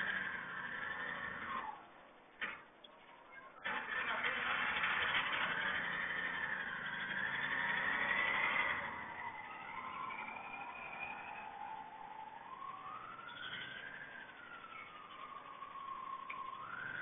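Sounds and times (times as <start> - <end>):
motor vehicle noise: 0.0 - 17.0.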